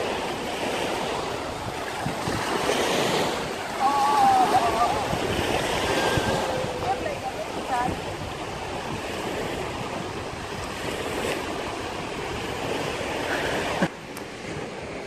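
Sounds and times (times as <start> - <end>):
surf on the shore: 0.0 - 15.0
wind on microphone: 0.0 - 15.0.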